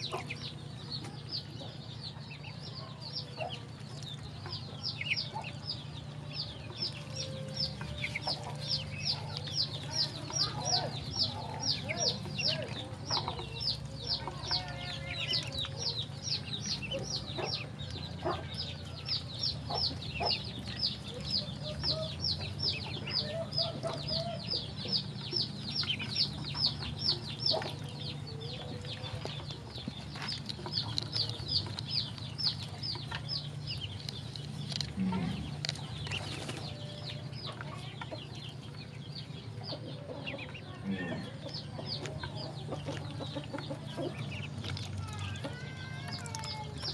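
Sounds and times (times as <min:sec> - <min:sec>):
ducklings peeping: 0:00.0 - 0:46.9
steady low hum: 0:00.0 - 0:46.9.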